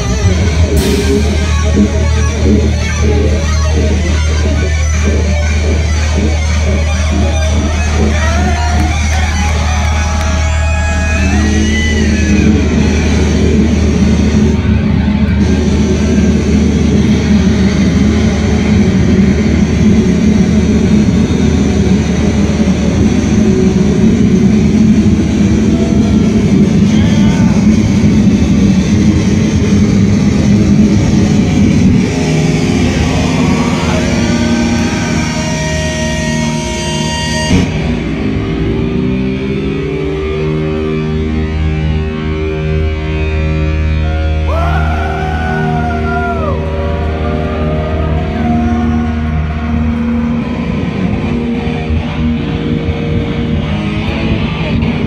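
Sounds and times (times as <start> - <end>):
live death metal band: 0.0 - 55.0.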